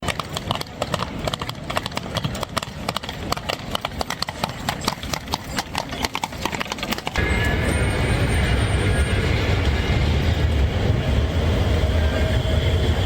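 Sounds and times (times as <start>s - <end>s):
horse hooves on cobblestones: 0.0s - 13.0s.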